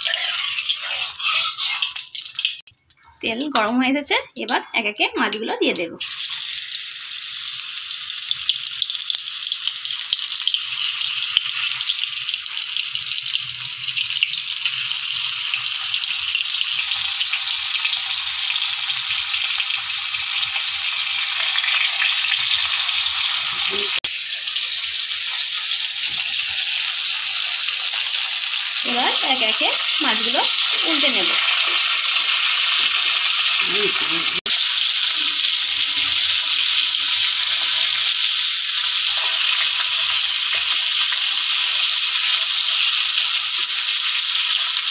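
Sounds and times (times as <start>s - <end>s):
fish sizzling in hot oil: 0.0s - 4.6s, 5.2s - 44.9s.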